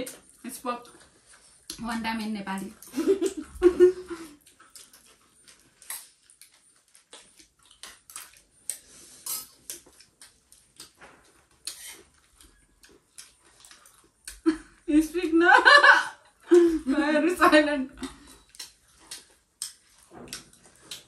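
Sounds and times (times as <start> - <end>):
crunching and chewing food: 0.0 - 14.9, 17.9 - 21.0.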